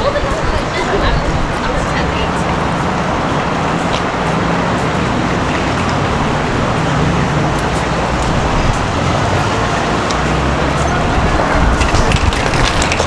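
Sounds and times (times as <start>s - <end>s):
low rumble of passing cars: 0.0s - 13.0s.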